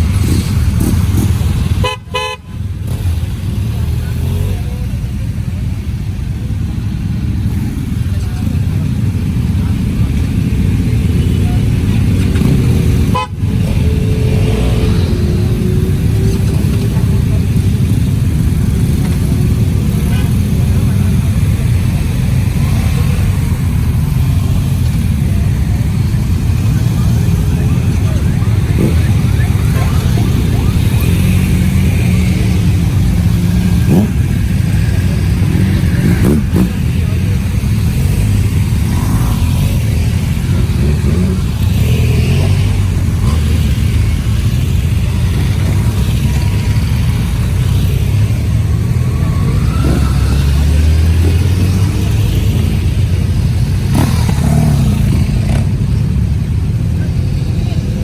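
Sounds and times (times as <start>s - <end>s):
motorcycle engine rumble: 0.0s - 58.0s
road and wind noise: 0.0s - 58.0s.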